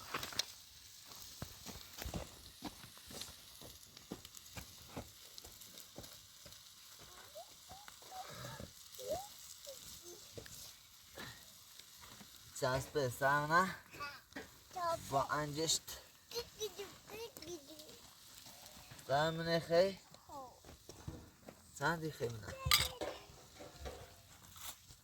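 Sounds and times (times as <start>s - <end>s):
crackles and pops: 0.0s - 25.0s
food sizzling in a pan: 0.0s - 25.0s.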